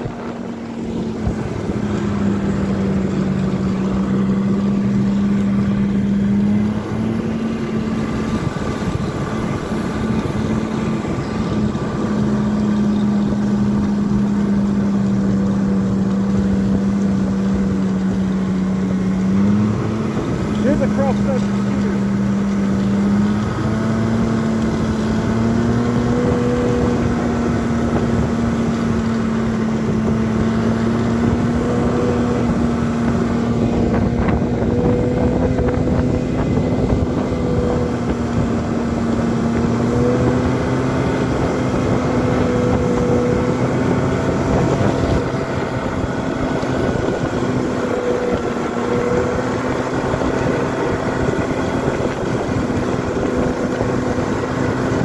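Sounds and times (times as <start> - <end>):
snowmobile engine droning: 0.0 - 55.0
wind noise on microphone: 0.0 - 55.0.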